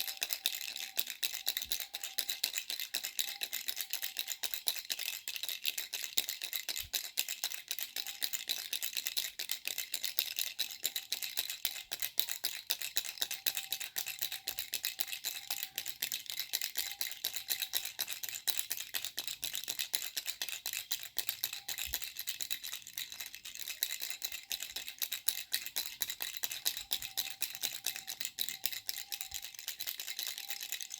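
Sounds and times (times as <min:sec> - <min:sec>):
baby rattle shaking: 0:00.0 - 0:30.9.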